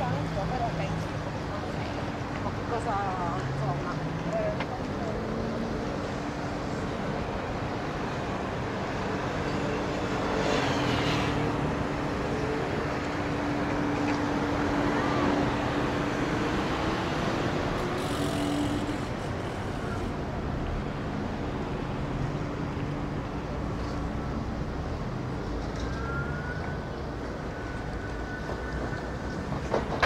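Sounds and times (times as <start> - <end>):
road traffic: 0.0 - 30.0.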